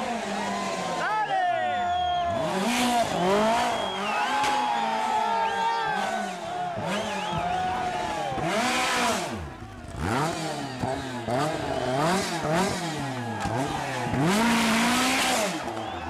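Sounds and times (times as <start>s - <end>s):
rally car engine revving: 0.0s - 1.1s, 1.8s - 16.0s.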